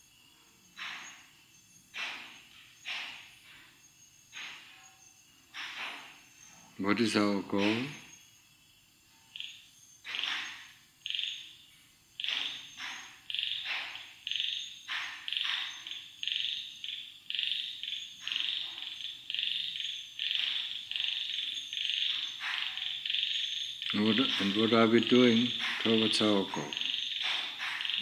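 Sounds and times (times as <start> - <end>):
frogs calling: 0.0 - 28.0.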